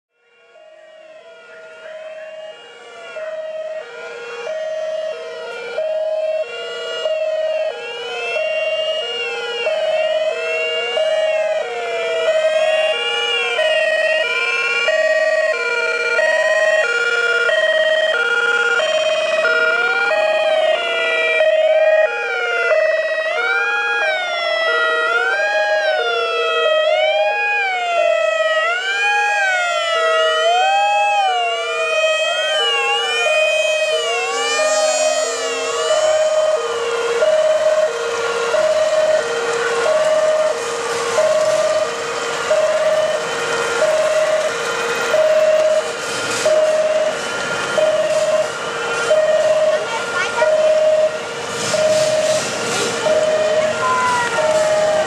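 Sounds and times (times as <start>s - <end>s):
two-tone police horn: 0.1s - 55.0s
wailing police sirens: 0.1s - 55.0s.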